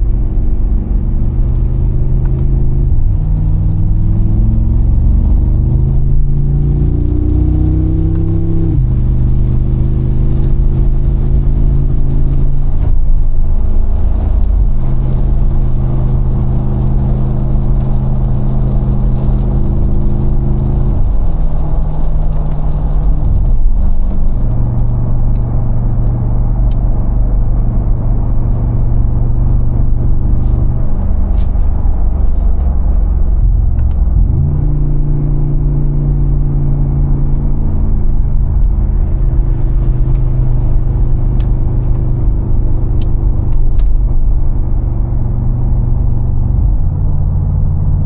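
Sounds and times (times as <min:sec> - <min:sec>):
car engine accelerating and shifting: 0:00.0 - 0:48.0.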